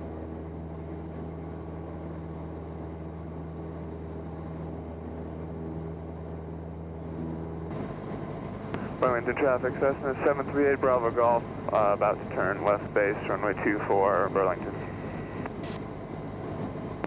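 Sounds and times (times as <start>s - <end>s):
airplane engine droning in cabin: 0.0s - 17.0s.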